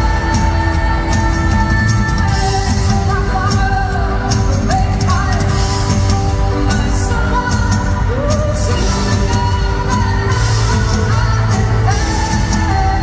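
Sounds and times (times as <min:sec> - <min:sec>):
electric guitar: 0:00.0 - 0:13.0
live rock band: 0:00.0 - 0:13.0
woman singing: 0:00.0 - 0:13.0.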